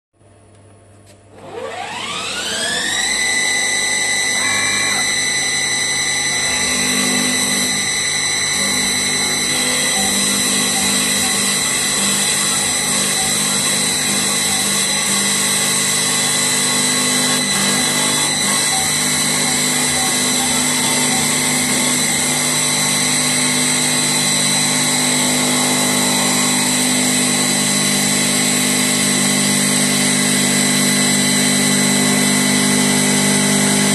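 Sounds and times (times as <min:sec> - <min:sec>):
lathe motor whining: 0:01.3 - 0:33.9.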